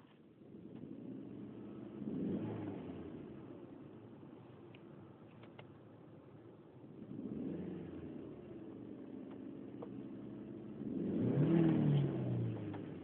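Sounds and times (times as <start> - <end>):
car engine starting: 0.0 - 13.0.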